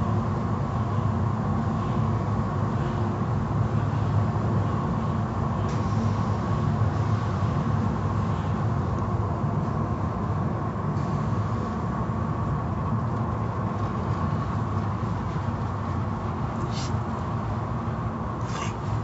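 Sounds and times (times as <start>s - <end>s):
machinery rumble: 0.0s - 19.0s.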